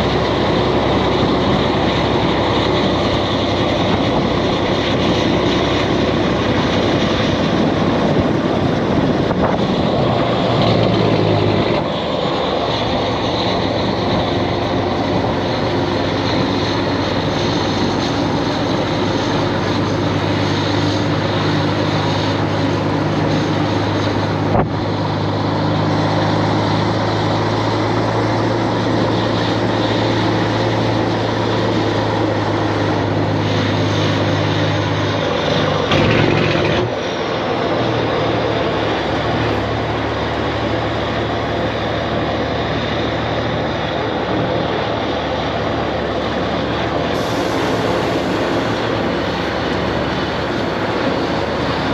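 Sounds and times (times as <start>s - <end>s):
truck diesel engine droning: 0.0s - 51.9s.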